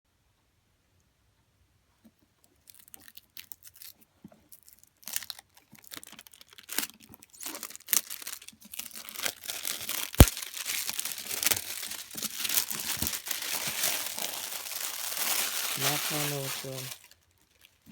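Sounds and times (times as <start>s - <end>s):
packaging crinkling and tearing: 2.6s - 17.9s.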